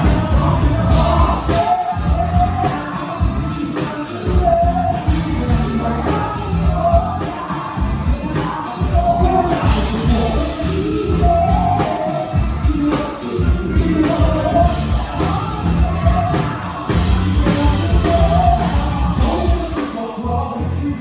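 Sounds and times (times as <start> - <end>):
live hip-hop funk band: 0.0 - 21.0
voices singing: 0.0 - 21.0.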